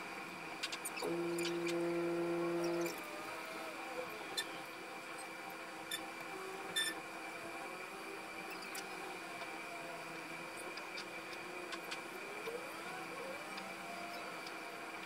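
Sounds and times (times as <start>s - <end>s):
room hum with high whine: 0.0s - 15.0s.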